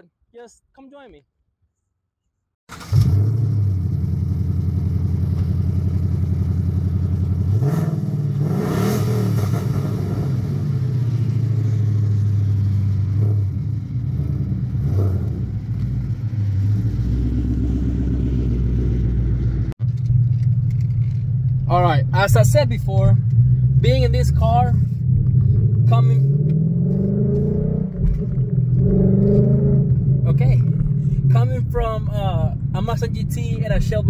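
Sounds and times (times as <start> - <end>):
car engine idling and revving: 2.7 - 34.0.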